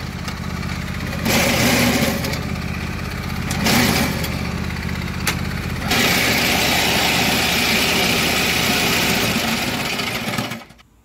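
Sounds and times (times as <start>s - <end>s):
lawn tractor engine running: 0.0s - 10.9s.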